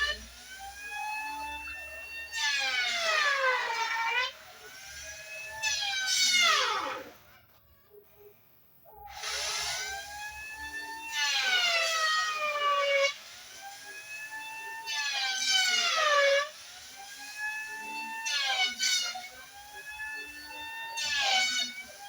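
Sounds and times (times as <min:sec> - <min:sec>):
electric planer cutting wood: 0:00.0 - 0:07.3, 0:09.1 - 0:22.0.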